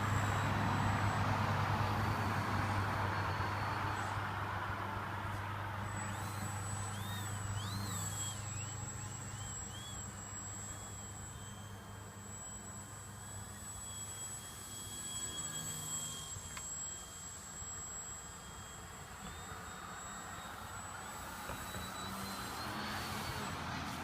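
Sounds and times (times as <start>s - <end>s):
model plane motor whining: 0.0s - 24.0s.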